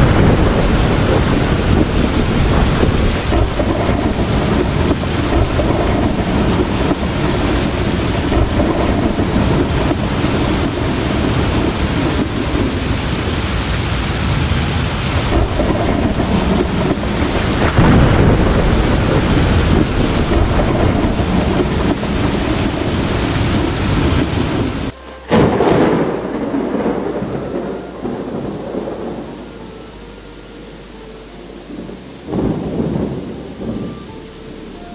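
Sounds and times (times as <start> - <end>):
deep rolling thunder: 0.0 - 30.1, 31.6 - 34.2
heavy rain pouring: 0.0 - 34.9.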